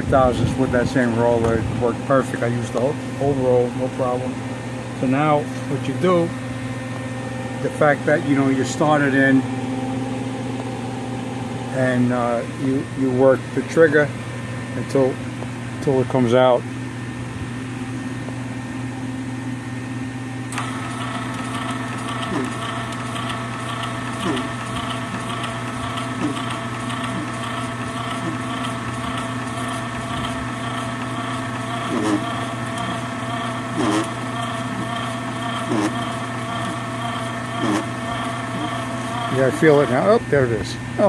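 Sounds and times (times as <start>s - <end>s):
welder humming: 0.0s - 14.1s, 20.4s - 41.0s
wire-feed motor whine: 0.0s - 14.2s, 20.2s - 41.0s.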